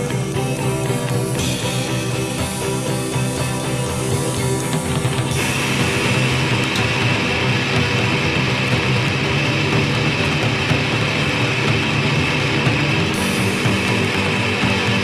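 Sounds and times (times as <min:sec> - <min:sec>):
distorted electric guitars: 0:00.0 - 0:15.0.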